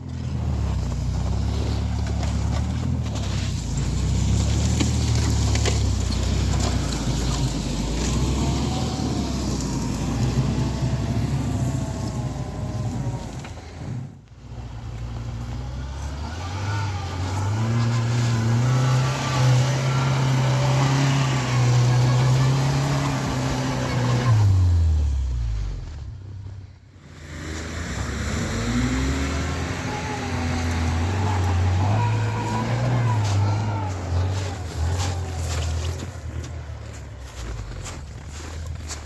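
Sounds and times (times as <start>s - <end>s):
off-road engine running under load: 0.0s - 39.0s.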